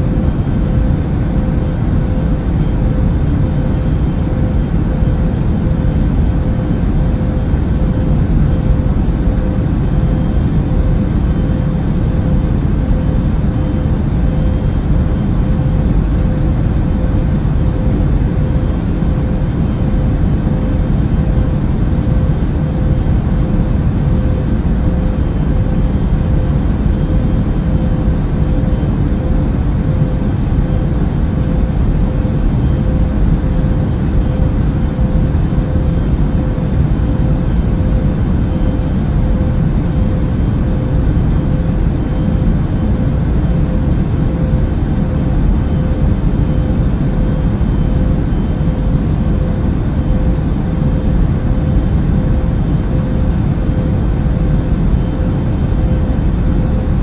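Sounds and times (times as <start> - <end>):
faint constant hum: 0.0 - 57.0
low rumble of engines and airflow: 0.0 - 57.0.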